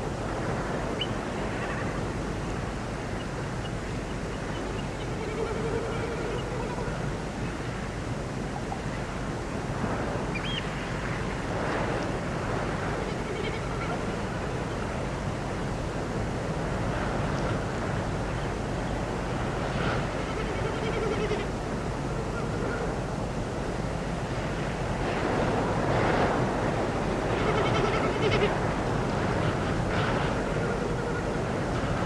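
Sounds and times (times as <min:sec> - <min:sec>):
steady rushing noise: 0:00.0 - 0:32.0.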